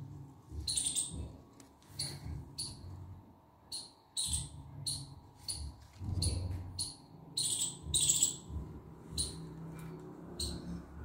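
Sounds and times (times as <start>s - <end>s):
small bird chirping: 0.5s - 3.0s, 3.6s - 9.6s, 10.3s - 10.8s.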